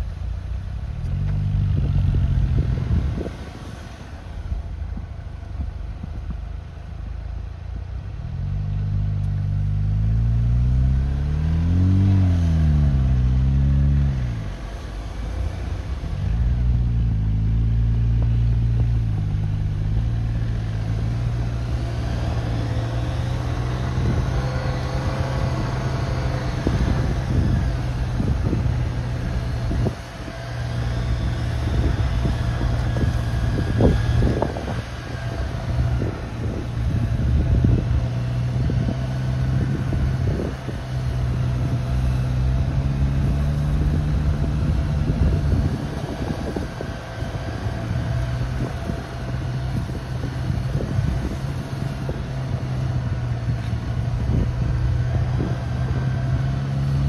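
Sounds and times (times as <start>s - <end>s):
off-road vehicle engine revving: 0.0s - 4.7s, 8.1s - 57.0s.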